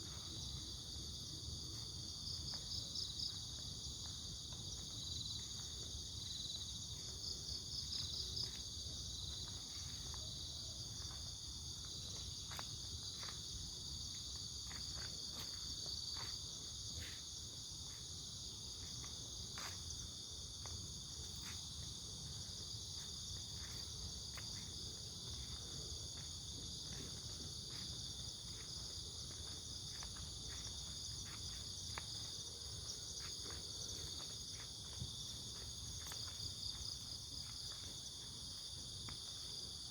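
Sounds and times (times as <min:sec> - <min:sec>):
crickets and insects chorusing: 0:00.0 - 0:39.9.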